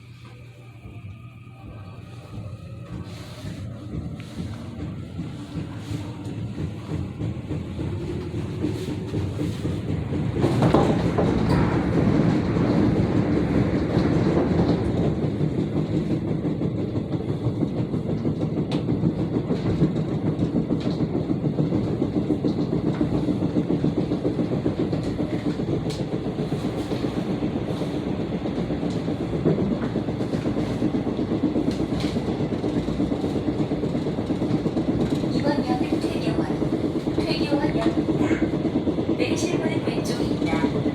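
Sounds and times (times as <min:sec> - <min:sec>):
train rumbling on rails: 0:00.0 - 0:40.9
wheels clickety-clack and thumping: 0:02.3 - 0:40.9.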